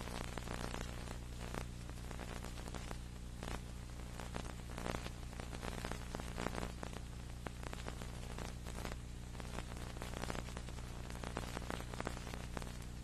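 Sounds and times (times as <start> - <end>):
crackling clicks: 0.0 - 13.0
low electrical hum and hiss: 0.0 - 13.0.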